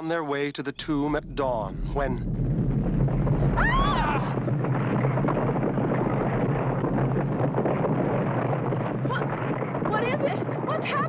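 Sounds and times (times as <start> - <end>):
heavy earthquake rumble: 0.6 - 11.0.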